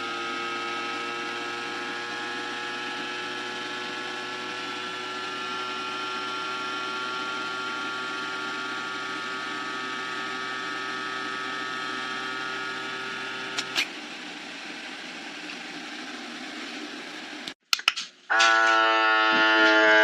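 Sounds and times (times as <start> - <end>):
small electric vacuum pump running: 0.0 - 17.6.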